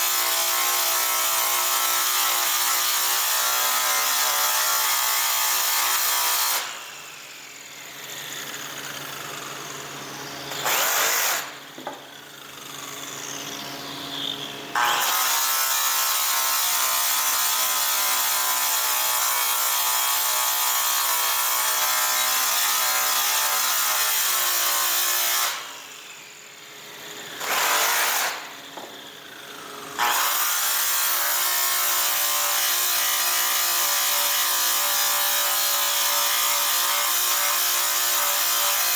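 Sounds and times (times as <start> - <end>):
power sander on metal whining: 0.0 - 38.9.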